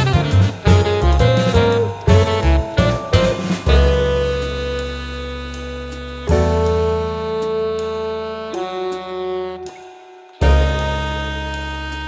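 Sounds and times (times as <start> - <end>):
held instrumental chord: 0.0 - 12.0.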